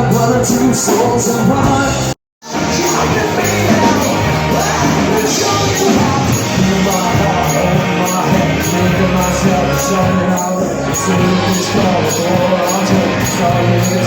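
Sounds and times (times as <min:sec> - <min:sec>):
rock music with singing: 0:00.0 - 0:14.0.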